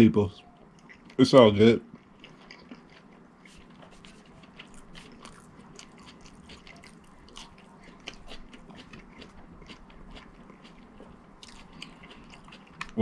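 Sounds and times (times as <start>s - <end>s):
person chewing food: 0.5s - 1.2s, 1.8s - 13.0s.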